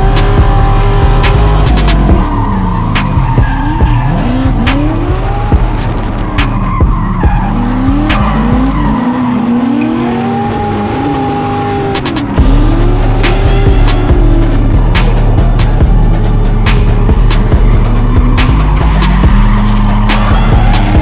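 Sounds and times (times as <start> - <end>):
car engines revving: 0.0 - 21.0
tyres skidding: 0.0 - 21.0.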